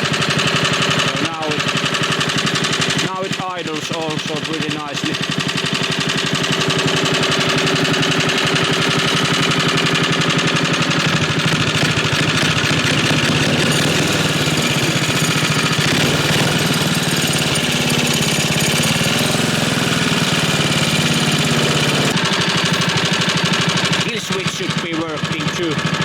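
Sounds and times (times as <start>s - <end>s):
small engine idling: 0.0s - 26.0s.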